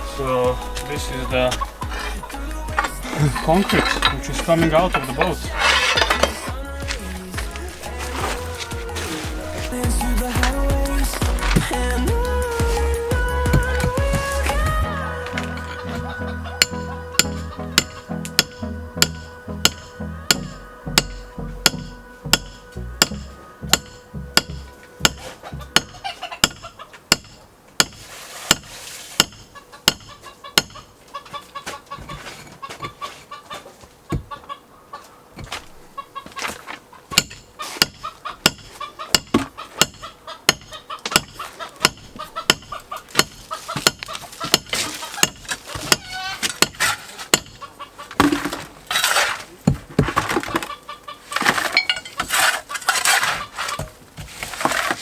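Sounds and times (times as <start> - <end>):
chickens clucking: 0.0 - 27.5, 28.8 - 55.0.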